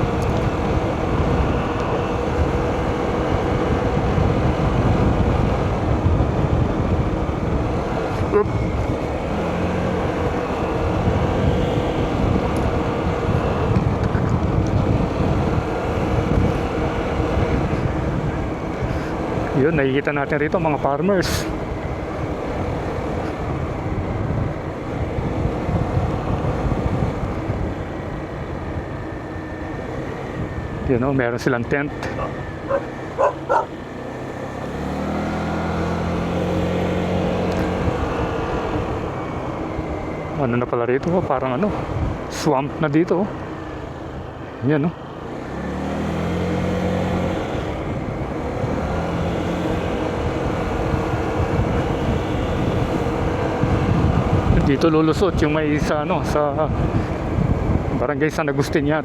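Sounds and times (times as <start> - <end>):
wind rumble on microphone: 0.0 - 44.6, 45.4 - 59.0
vehicle engine running: 0.0 - 58.7.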